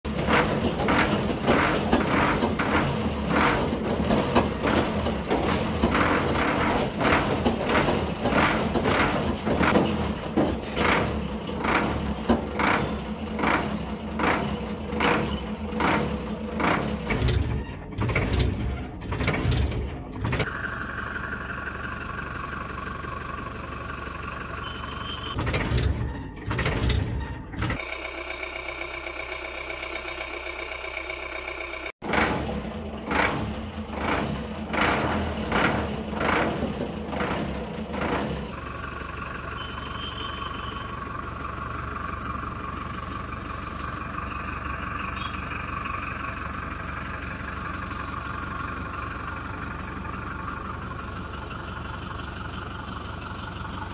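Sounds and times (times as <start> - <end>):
truck engine pulsing: 0.0 - 53.9.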